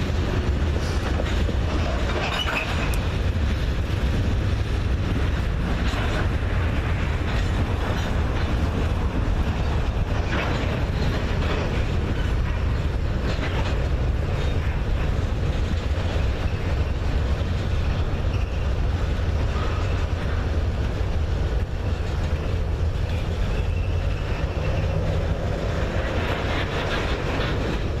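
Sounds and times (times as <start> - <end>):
freight train rumbling: 0.0 - 28.0
wheels clicking over rail joints: 0.0 - 28.0.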